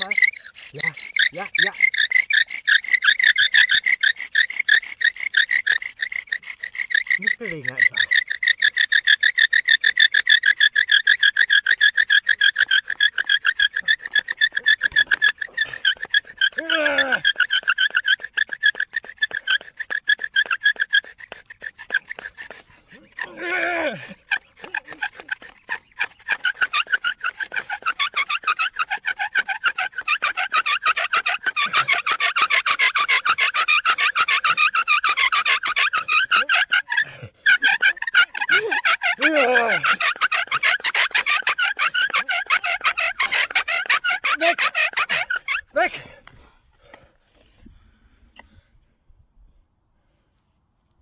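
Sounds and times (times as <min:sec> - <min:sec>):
bow drill spindle squeaking: 0:00.0 - 0:46.4.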